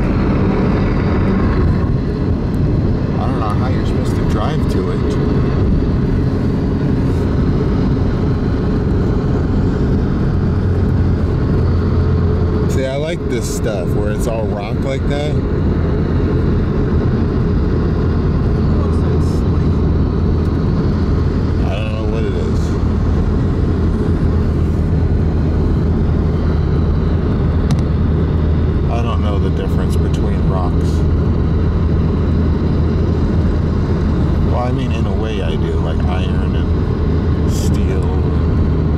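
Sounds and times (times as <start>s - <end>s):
car driving on highway: 0.0s - 38.9s.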